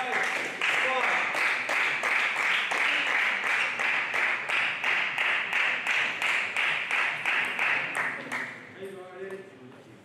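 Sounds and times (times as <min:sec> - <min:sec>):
spectators clapping in unison: 0:00.0 - 0:08.6.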